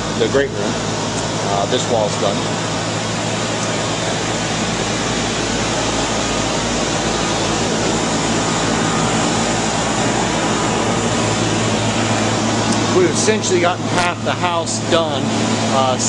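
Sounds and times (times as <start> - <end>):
insulation blowing machine hum and hiss: 0.0 - 16.0.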